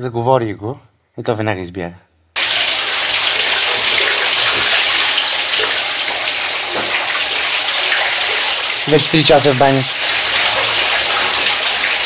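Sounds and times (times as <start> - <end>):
running water: 2.4 - 12.0.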